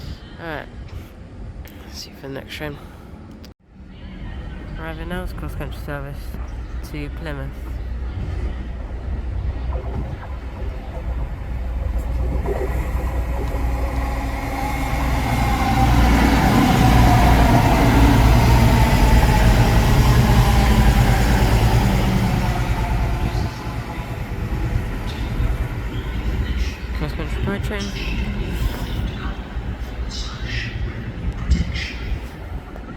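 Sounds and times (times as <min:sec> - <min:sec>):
diesel train engine rumble: 0:03.1 - 0:32.9
train wheel noise: 0:04.2 - 0:32.9.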